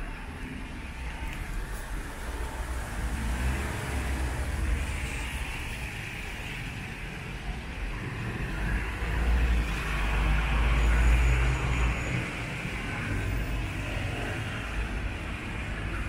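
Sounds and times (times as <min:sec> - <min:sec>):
passing engines rumbling: 0:00.0 - 0:16.0.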